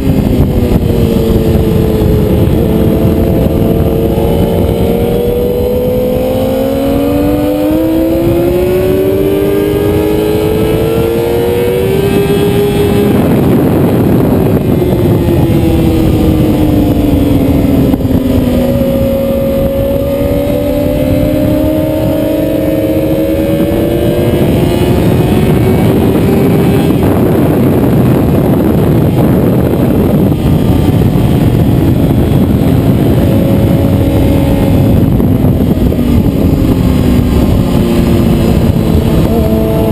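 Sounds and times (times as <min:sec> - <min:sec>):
heavy rushing noise: 0:00.0 - 0:39.9
motorcycle engine revving: 0:00.0 - 0:39.9.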